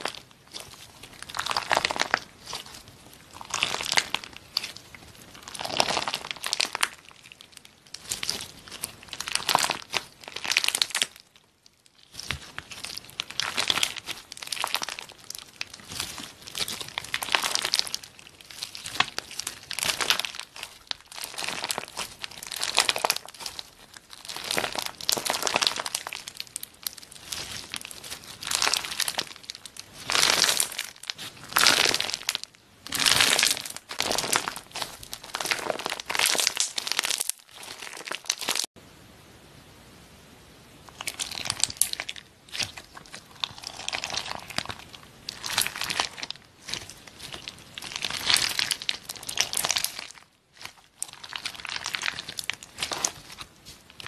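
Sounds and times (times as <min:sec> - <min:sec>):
slime crackling when squeezed: 0:00.0 - 0:38.7, 0:40.9 - 0:54.0.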